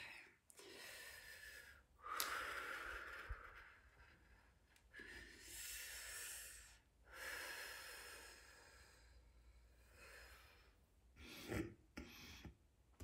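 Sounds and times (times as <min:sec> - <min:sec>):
woman breathing softly: 0:00.0 - 0:12.6.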